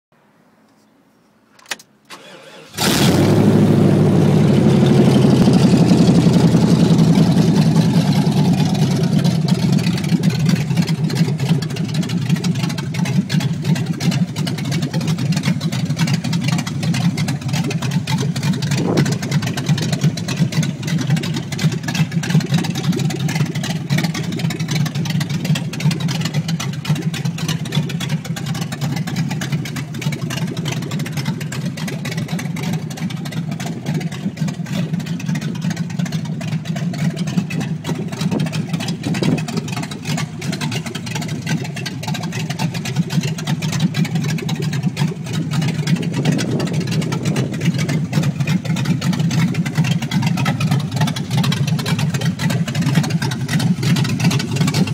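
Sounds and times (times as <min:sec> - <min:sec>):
engine cranking: 0:01.6 - 0:54.9
engine idling loudly: 0:02.7 - 0:54.9.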